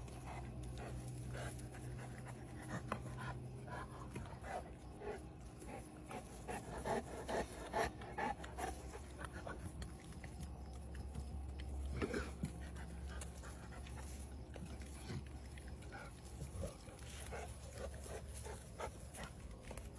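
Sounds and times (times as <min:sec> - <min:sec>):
puppies panting: 0:00.0 - 0:19.9.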